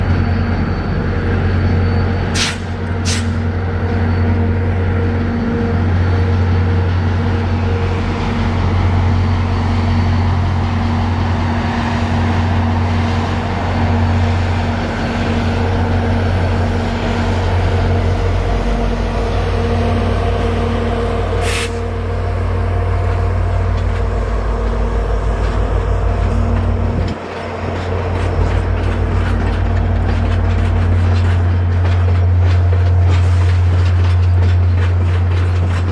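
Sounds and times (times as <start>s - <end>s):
diesel locomotive engine hum: 0.0s - 35.9s
constant tones: 3.4s - 35.9s.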